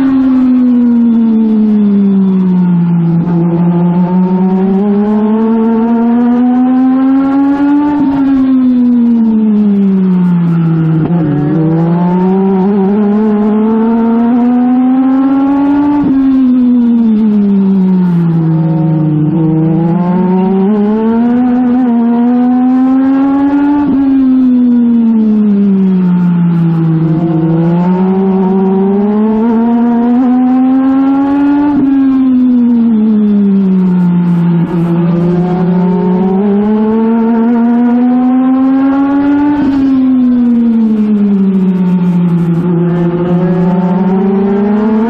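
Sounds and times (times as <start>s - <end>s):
race car engine revving: 2.8s - 8.5s, 10.4s - 17.3s, 18.0s - 24.2s, 26.1s - 45.0s.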